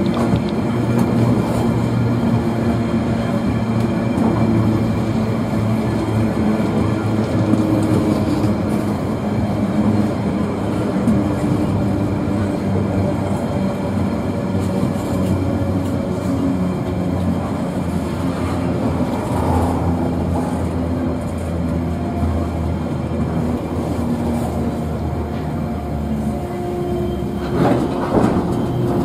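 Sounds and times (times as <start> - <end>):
locomotive engine drone: 0.0 - 29.0
rail and wagon noise: 0.0 - 29.0.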